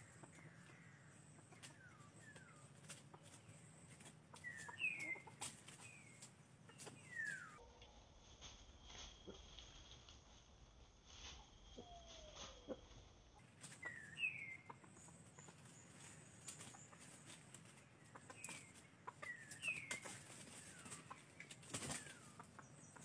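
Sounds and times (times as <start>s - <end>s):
chickens chirping: 0.0s - 23.0s
rustling in dry leaves: 1.5s - 22.7s.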